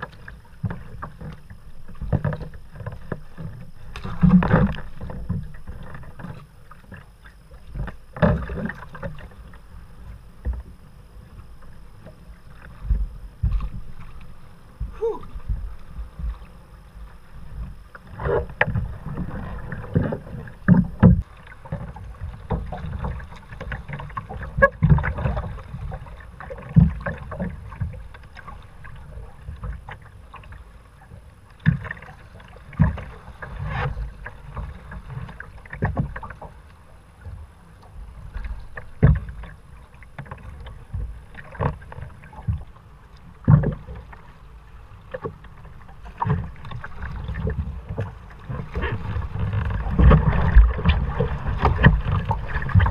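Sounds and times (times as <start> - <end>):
paddle splashes: 0.0 - 11.3, 11.9 - 52.9
low rumble of water and wind: 0.0 - 52.9
water slapping against hull: 0.0 - 52.9.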